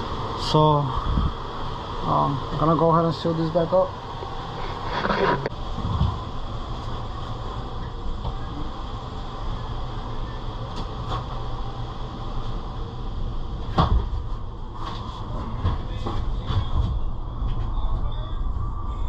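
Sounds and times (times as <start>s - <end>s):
air conditioner hum: 0.0s - 19.0s.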